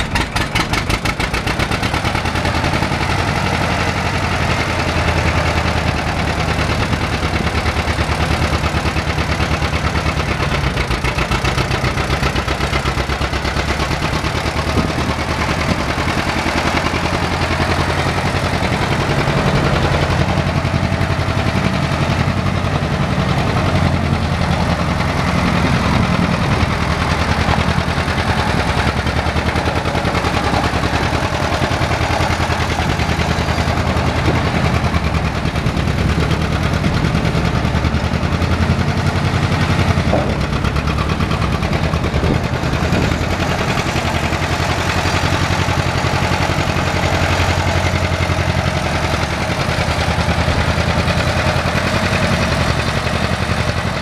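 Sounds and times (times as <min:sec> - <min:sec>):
tractor engine rhythmic exhaust: 0:00.0 - 0:54.0.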